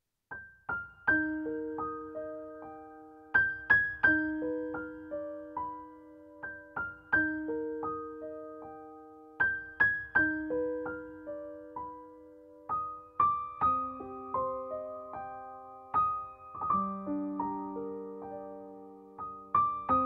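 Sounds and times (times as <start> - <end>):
gentle piano melody: 0.3 - 20.0.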